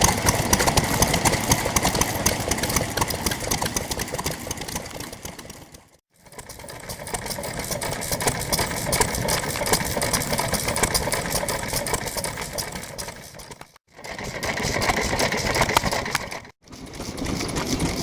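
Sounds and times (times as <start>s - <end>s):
stationary engine knocking: 0.0s - 18.0s.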